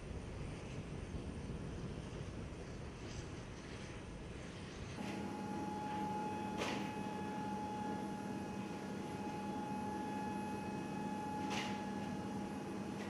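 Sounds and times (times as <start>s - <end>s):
machinery hum with whine: 0.0s - 13.0s.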